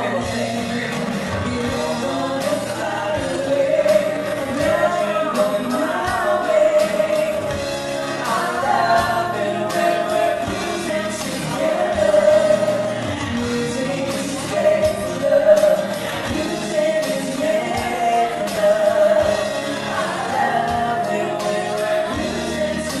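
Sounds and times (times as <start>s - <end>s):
woman singing into a microphone: 0.0s - 7.6s, 8.2s - 23.0s
drums: 0.0s - 23.0s
strummed acoustic guitar: 0.0s - 23.0s.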